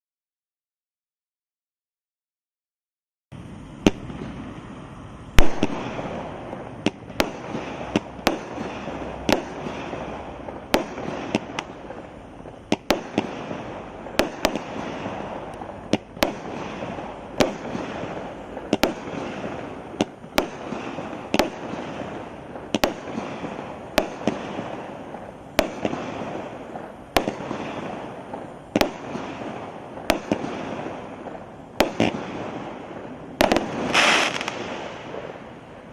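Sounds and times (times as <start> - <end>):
hiss of burning firework: 3.4 - 35.9
firework bangs: 3.5 - 35.9.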